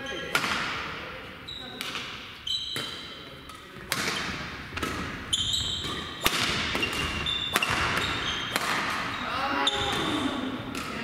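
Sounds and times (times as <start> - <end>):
shoes squeaking on court: 0.0 - 0.4, 1.4 - 11.0
racket hitting shuttlecock: 0.3 - 1.0, 1.8 - 11.0.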